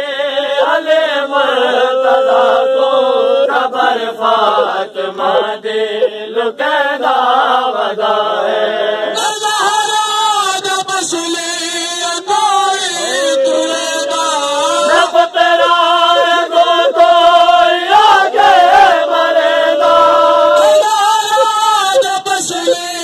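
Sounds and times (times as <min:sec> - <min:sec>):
man chanting a lament: 0:00.0 - 0:23.0.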